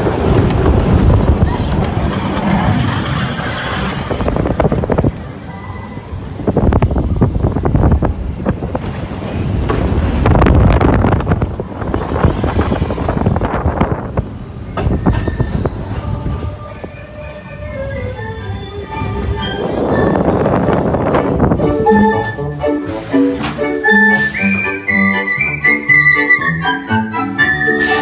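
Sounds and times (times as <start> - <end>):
wind buffeting microphone: 0.0 - 22.5
roller coaster wheels clattering on track: 0.0 - 24.4.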